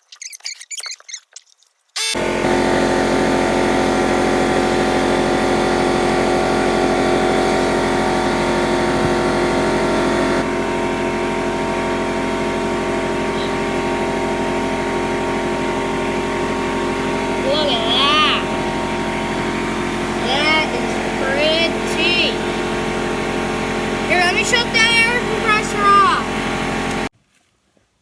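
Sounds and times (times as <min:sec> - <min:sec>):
air compressor motor running: 0:02.0 - 0:27.1.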